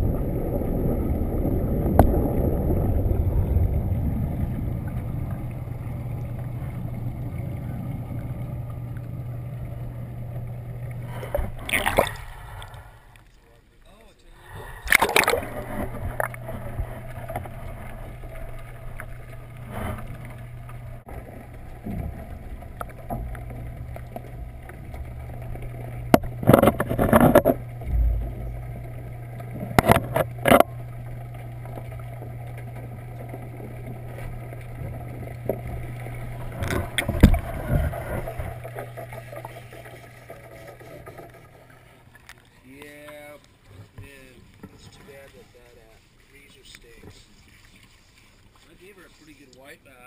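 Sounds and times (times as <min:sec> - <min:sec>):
low machinery hum underwater: 0:00.0 - 0:50.0.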